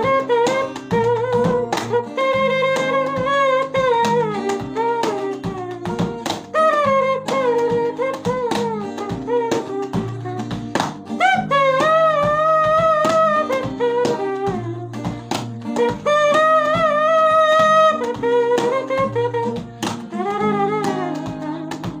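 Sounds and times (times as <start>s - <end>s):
backing track of guitar and drums: 0.0s - 22.0s
man imitating a saxophone: 0.0s - 22.0s.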